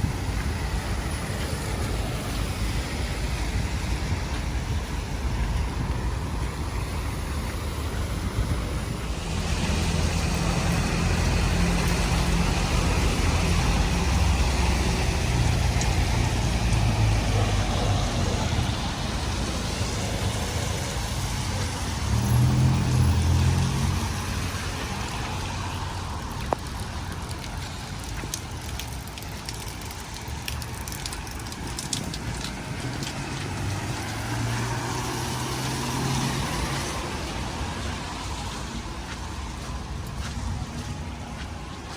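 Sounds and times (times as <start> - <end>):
tyres hissing on wet road: 0.0 - 41.9
vehicles passing: 0.0 - 41.9.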